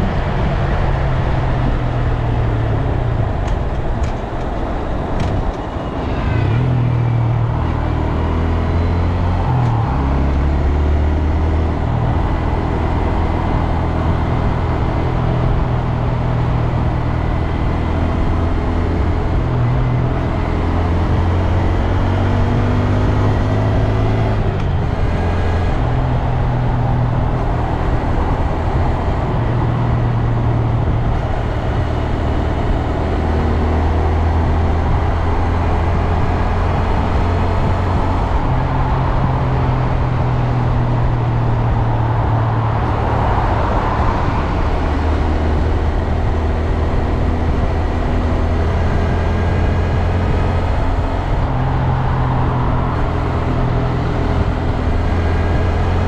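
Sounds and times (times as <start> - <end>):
motorcycle engine revving: 5.2 - 56.0.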